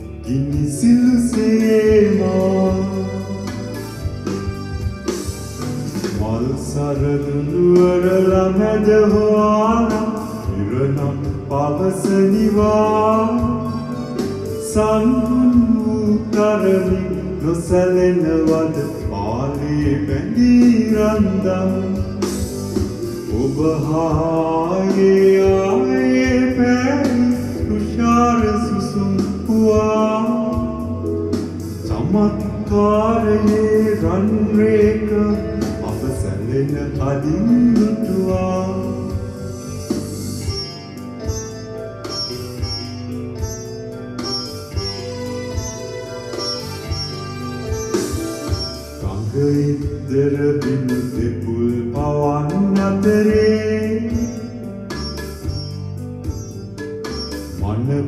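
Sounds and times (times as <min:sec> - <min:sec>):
man singing slow melody: 0:00.0 - 0:04.1, 0:06.0 - 0:41.3, 0:46.9 - 0:54.9, 0:57.5 - 0:58.0
instrumental accompaniment: 0:00.0 - 0:58.0.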